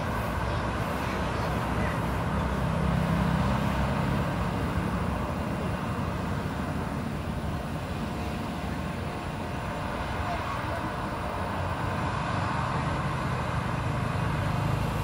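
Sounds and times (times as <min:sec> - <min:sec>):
airliner engine roar: 0:00.0 - 0:15.0.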